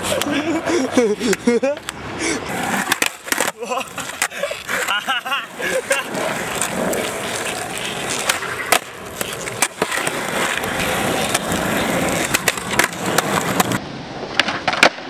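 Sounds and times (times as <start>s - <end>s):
skateboard clacking on ground: 0.0s - 15.0s
skateboard wheels rolling on asphalt: 0.0s - 15.0s.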